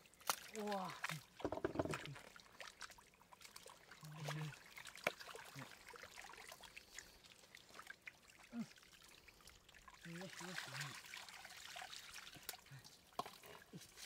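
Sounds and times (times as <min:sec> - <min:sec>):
shallow water trickling and splashing: 0:00.0 - 0:14.0.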